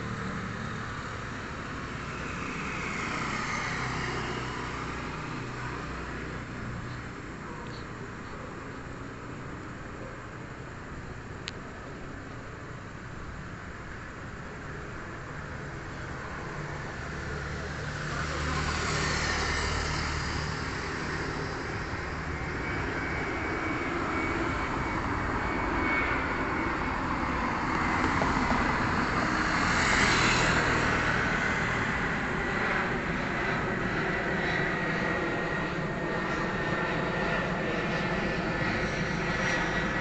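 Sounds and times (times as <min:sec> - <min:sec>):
jet airliner flying past: 0:00.0 - 0:40.0.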